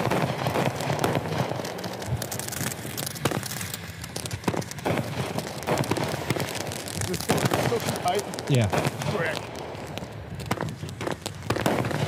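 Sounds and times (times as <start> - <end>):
firework fizzing crackle: 0.0 - 12.0
firework pops and bangs: 0.0 - 12.0.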